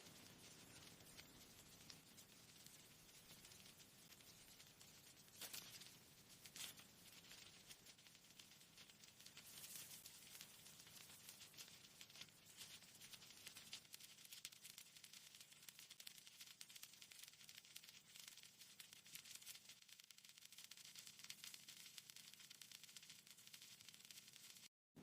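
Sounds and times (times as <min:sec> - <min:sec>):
dense crackling and rustling: 0:00.0 - 0:24.7
soft steady hiss: 0:00.0 - 0:25.0.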